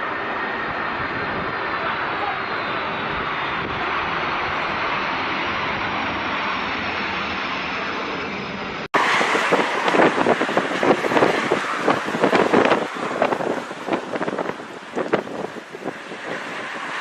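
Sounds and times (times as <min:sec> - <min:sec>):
wind buffeting microphone: 0:00.0 - 0:06.4, 0:08.9 - 0:17.0
high engine whine: 0:00.0 - 0:17.0
jet engines roaring: 0:00.0 - 0:17.0.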